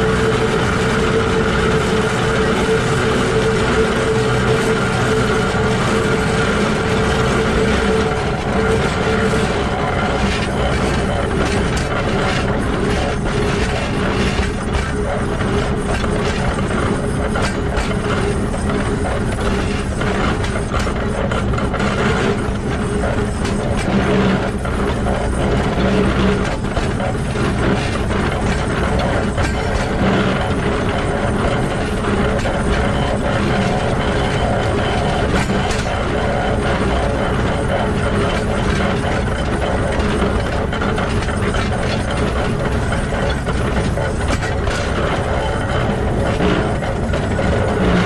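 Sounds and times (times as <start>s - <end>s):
locomotive gears clattering: 0.0s - 48.0s.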